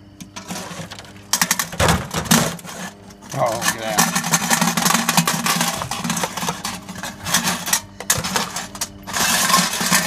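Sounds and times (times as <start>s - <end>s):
food clattering into foil pan: 0.3s - 10.0s.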